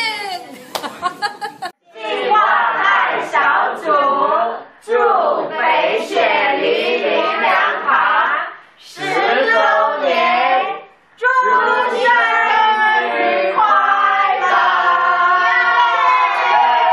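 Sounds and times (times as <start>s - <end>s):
adults and children singing: 1.9s - 16.9s.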